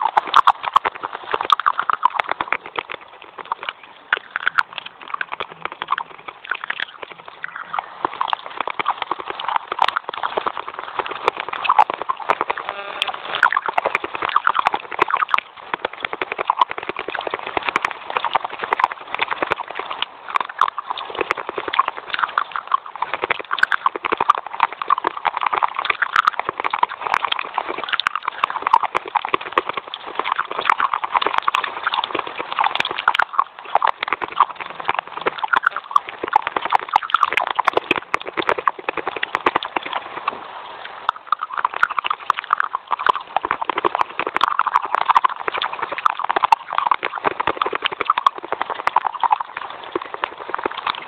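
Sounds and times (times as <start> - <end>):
chewing crisp crunches: 0.0 - 51.0.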